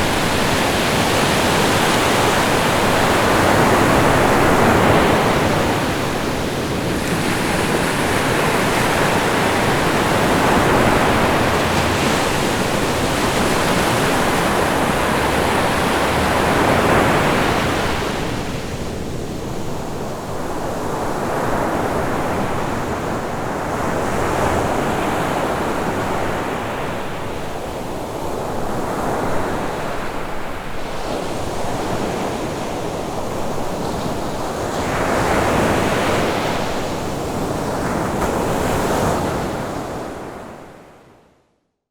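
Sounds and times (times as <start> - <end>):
waves breaking: 0.0 - 40.4
wind: 0.0 - 41.8.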